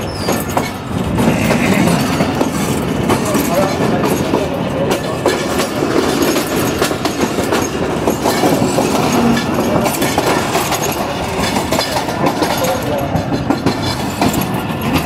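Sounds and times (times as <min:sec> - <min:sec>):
clickety-clack over rail joints: 0:00.0 - 0:15.0
train wheels rumbling on rails: 0:00.0 - 0:15.0.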